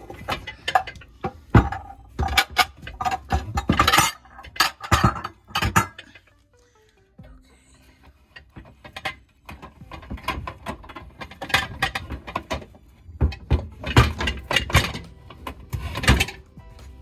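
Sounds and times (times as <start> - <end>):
dishes clattering and clinking: 0.0 - 6.2, 8.3 - 17.0.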